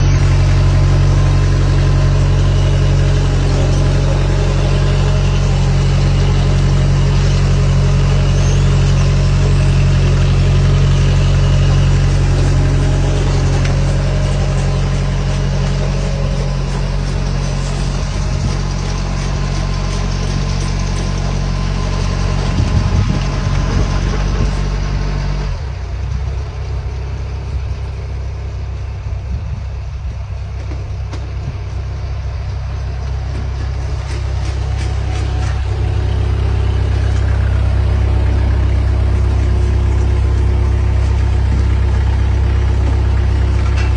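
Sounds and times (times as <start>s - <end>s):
large engine running: 0.0s - 43.9s.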